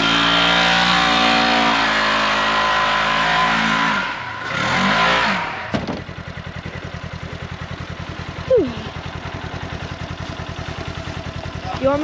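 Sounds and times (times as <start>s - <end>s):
engine revving and idling: 0.0s - 12.0s.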